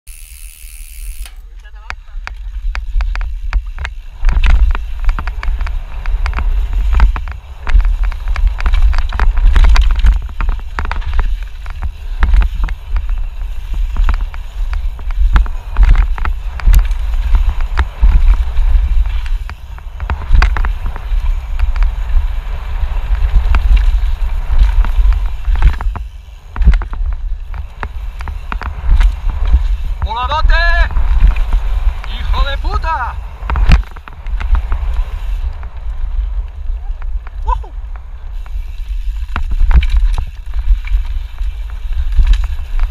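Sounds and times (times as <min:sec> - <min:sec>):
bike rattling and knocking: 0:00.1 - 0:42.9
tyre noise on loose dirt: 0:00.1 - 0:42.9
wind buffeting microphone: 0:01.9 - 0:42.9.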